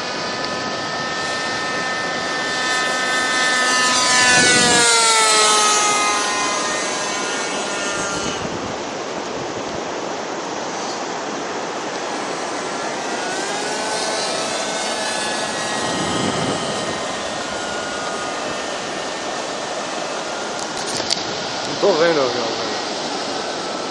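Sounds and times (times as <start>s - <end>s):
model airplane engine buzzing: 0.0s - 23.9s
wind on microphone: 0.0s - 23.9s.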